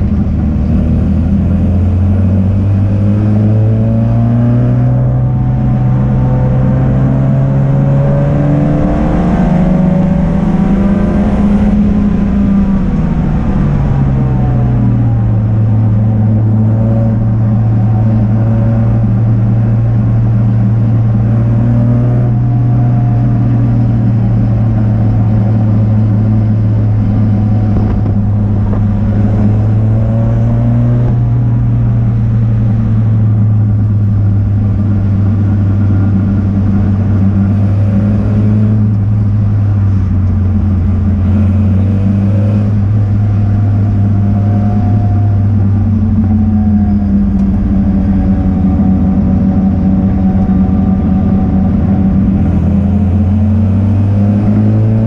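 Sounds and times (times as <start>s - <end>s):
race car engine droning: 0.0s - 55.0s.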